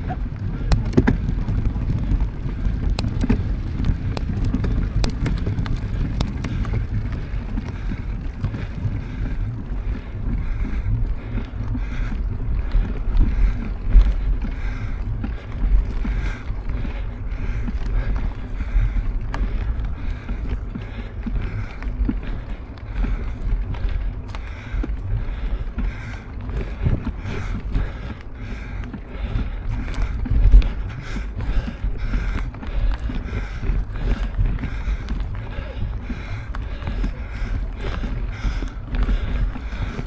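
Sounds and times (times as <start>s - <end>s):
bike clicks and rattles: 0.0s - 40.0s
wind rumbling over microphone: 0.0s - 40.0s.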